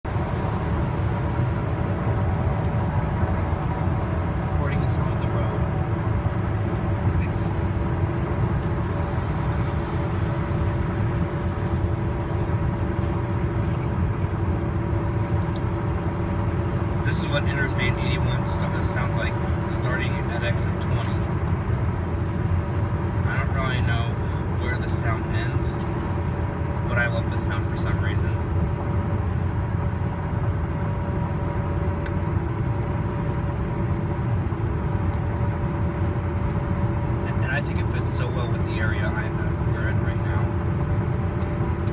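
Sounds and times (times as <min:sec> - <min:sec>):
faint droning hum: 0:00.0 - 0:41.9
tyres rumbling on highway: 0:00.0 - 0:41.9.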